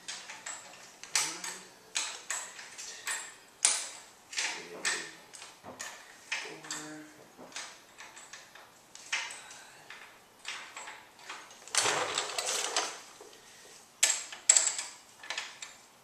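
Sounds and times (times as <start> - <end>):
hand tools clicking on metal: 0.0 - 13.0.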